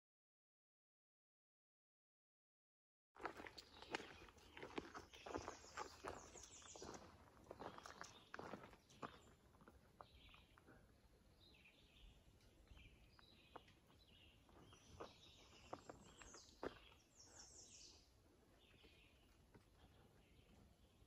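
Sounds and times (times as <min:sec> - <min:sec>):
songbirds chirping and trilling: 0:03.5 - 0:21.0.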